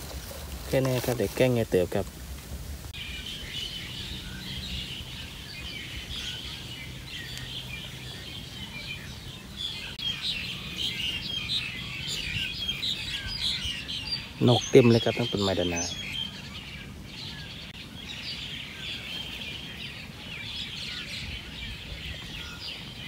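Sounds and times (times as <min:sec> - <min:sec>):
flock of birds chirping: 0:00.0 - 0:23.0.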